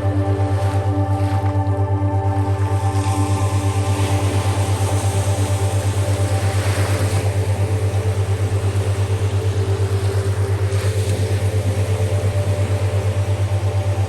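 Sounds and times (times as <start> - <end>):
boat engine idling: 0.0 - 14.0
sea water washing: 0.0 - 14.0.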